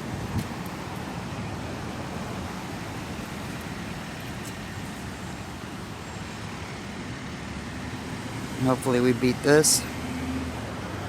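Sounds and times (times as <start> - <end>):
vehicle road noise rumble: 0.0 - 11.0.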